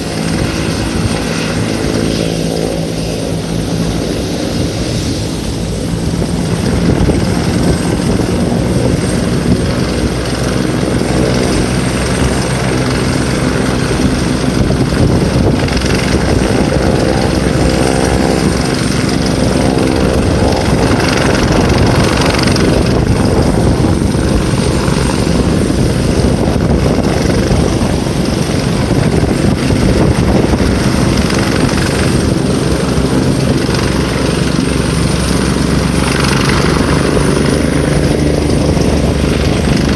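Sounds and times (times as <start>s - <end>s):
helicopter rotor chopping: 0.0s - 39.9s
helicopter turbine engines: 0.0s - 39.9s.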